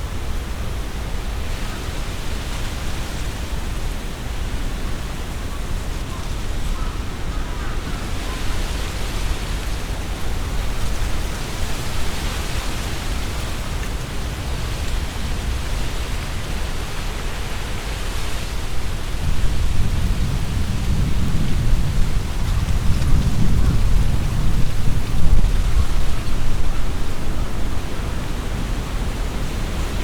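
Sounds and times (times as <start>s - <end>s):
leaves rustling: 0.0s - 30.0s
wind gusting through trees: 0.0s - 30.0s
wind rumble on microphone: 0.0s - 30.0s.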